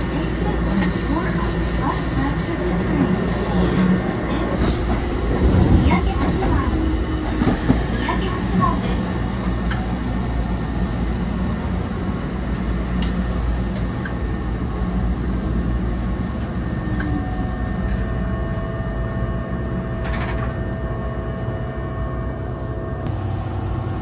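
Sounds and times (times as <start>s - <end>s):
railcar rumble and motor hum: 0.0s - 24.0s.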